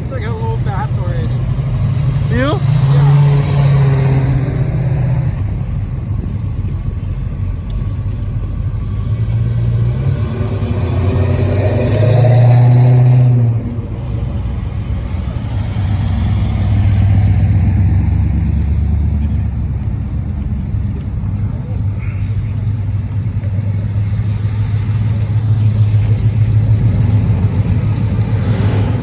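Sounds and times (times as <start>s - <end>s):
car engines droning: 0.0s - 29.0s.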